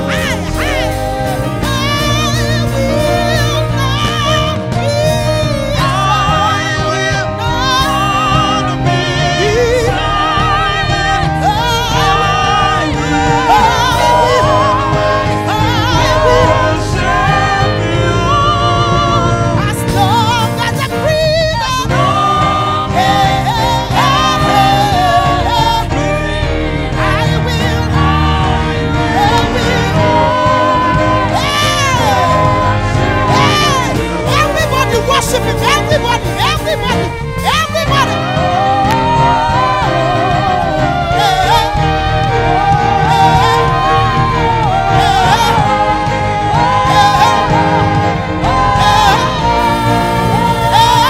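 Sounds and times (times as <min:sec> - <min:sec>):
band with drums: 0:00.0 - 0:51.0
women singing gospel: 0:00.0 - 0:51.0.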